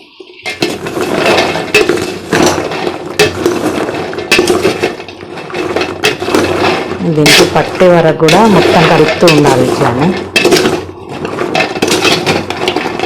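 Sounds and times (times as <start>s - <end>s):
ladle scraping and rattling in pan: 0.1s - 13.0s.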